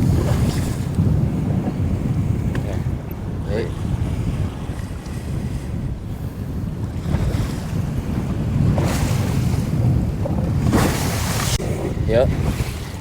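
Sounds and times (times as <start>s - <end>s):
waves washing against boat: 0.0s - 13.0s
wind buffeting microphone: 0.0s - 13.0s.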